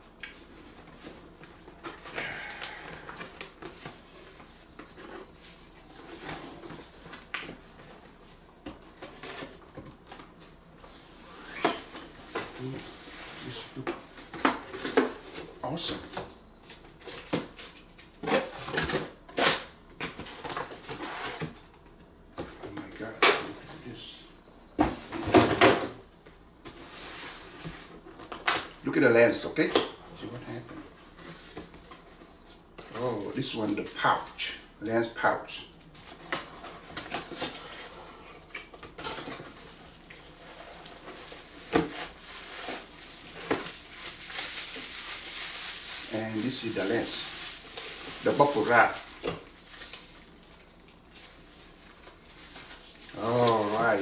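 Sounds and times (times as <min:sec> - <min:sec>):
packaging rustling and scraping: 0:00.4 - 0:21.7, 0:26.6 - 0:28.8, 0:29.5 - 0:34.4, 0:35.9 - 0:54.0.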